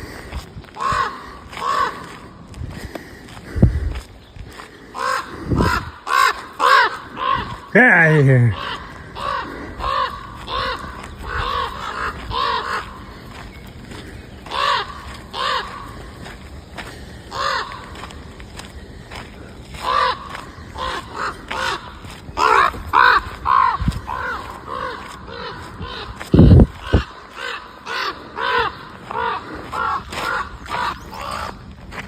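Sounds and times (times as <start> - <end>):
crows cawing: 0.0 - 32.0.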